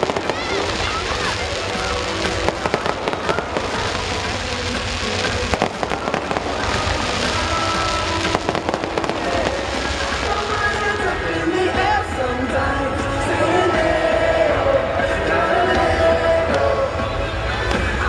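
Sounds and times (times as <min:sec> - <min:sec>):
fireworks bursting and crackling: 0:00.0 - 0:18.0
music: 0:00.0 - 0:18.0.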